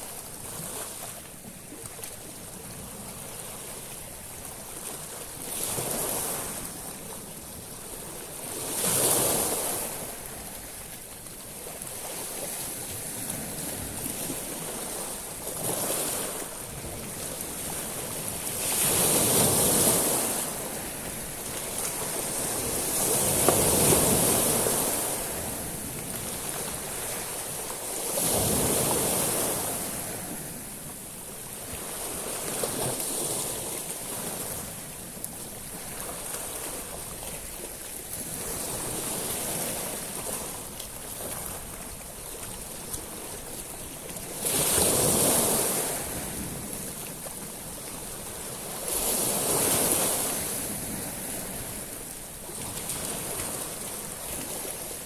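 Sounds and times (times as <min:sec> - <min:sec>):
waves washing over shingle: 0:00.0 - 0:55.0.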